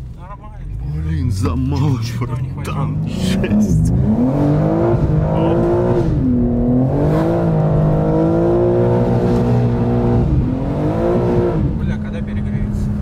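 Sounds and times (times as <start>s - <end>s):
car engine revving under load: 0.0s - 13.0s.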